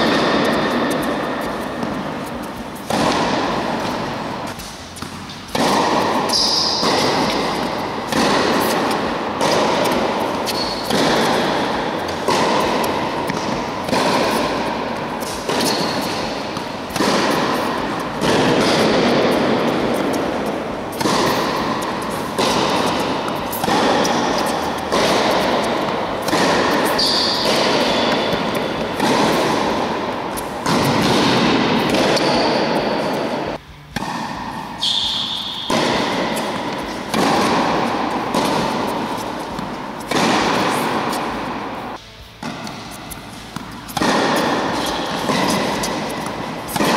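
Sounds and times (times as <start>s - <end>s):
racket striking tennis ball: 0.0s - 46.9s.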